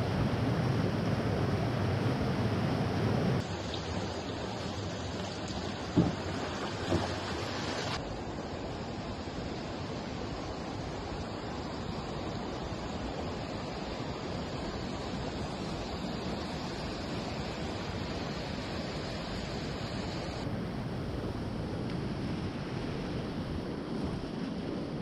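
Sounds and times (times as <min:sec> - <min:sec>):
creek whitewater rushing: 0:00.0 - 0:25.0.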